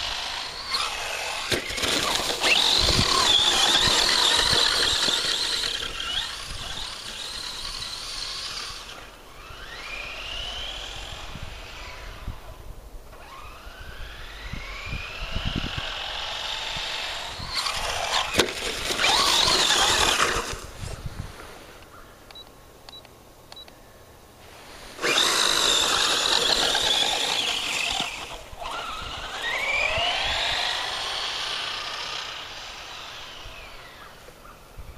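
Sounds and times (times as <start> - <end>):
electric motor whining: 0.0 - 20.7, 24.9 - 34.3.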